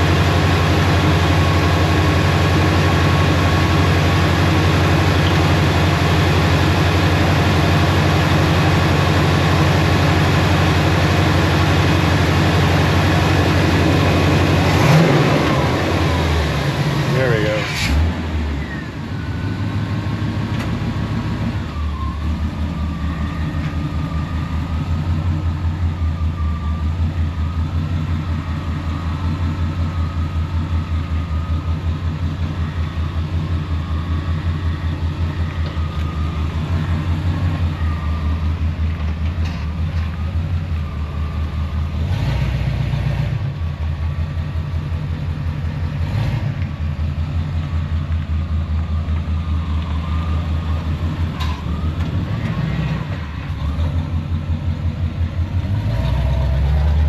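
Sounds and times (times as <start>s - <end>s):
pickup engine idling: 0.0s - 42.1s, 43.4s - 57.0s.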